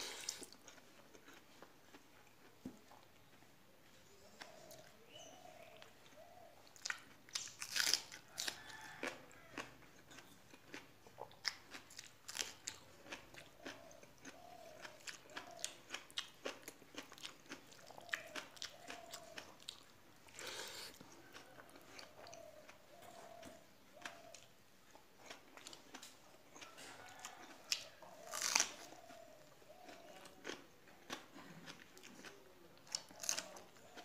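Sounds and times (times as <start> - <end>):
chewing and crunching food: 0.0 - 34.0.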